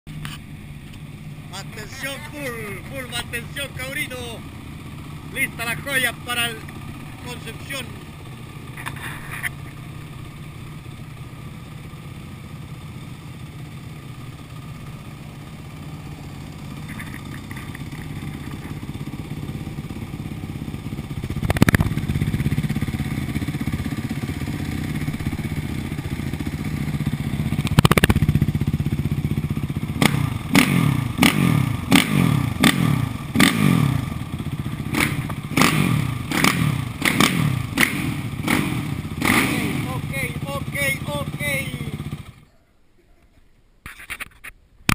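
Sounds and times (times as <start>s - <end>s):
motorcycle throttle blips: 0.1s - 42.5s
motorcycle engine idling: 0.1s - 42.7s.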